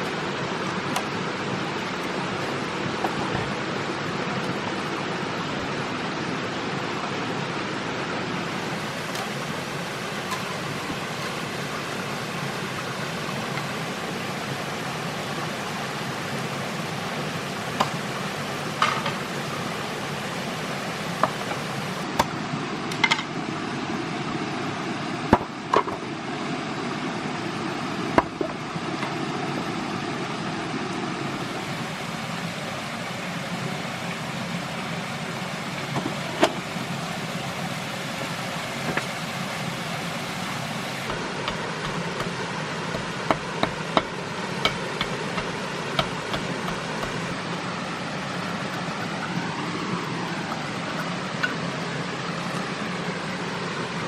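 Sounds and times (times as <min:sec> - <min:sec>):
steady rushing hiss: 0:00.0 - 0:22.1, 0:31.2 - 0:54.0.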